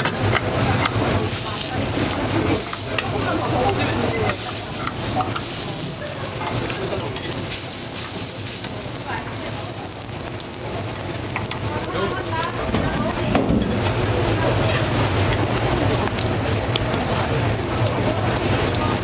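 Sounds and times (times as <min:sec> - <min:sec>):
pancakes sizzling in oil: 0:00.0 - 0:19.0.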